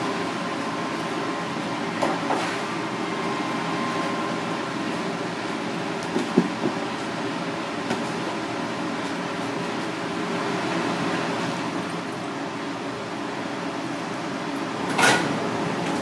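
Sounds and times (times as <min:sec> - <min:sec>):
kitchen ventilation humming: 0:00.0 - 0:16.0.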